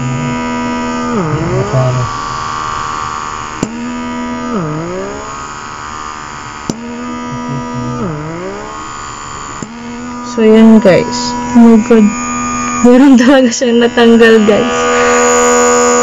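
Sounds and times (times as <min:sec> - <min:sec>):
electric suction pump whining: 0:00.0 - 0:16.0.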